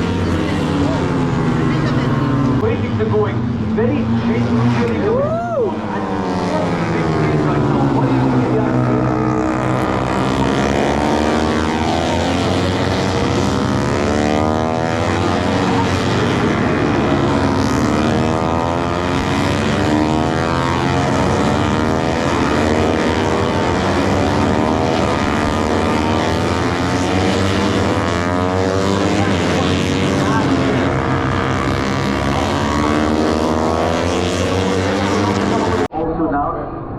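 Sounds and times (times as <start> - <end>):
racing motorcycle engines: 0.0 - 36.9.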